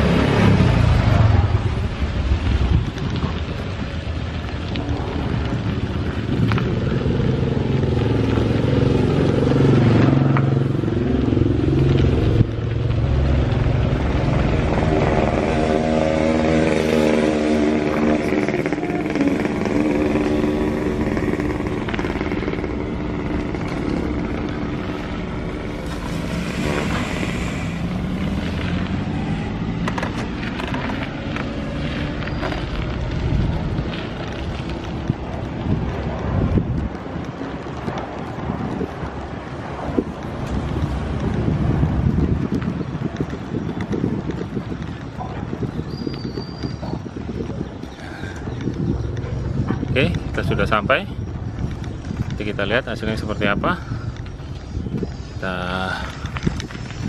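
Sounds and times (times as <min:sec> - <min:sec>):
small motorcycles passing: 0:00.0 - 0:57.0.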